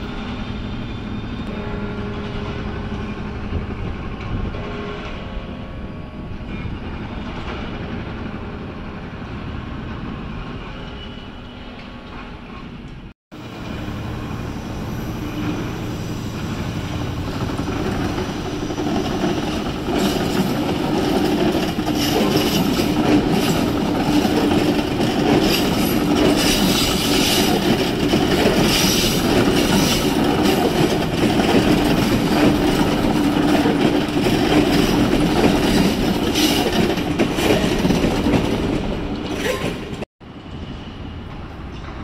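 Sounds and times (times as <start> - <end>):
train running on tracks: 0.0 - 42.0.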